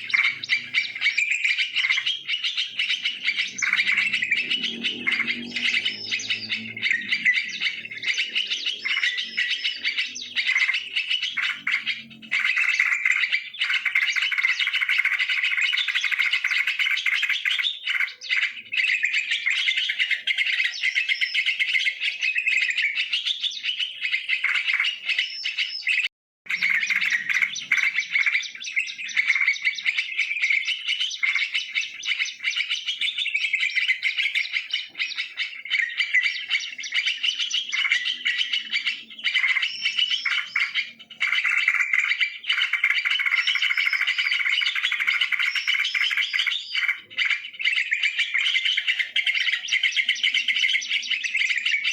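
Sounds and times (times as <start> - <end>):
birds chirping and chattering: 0.0 - 51.9.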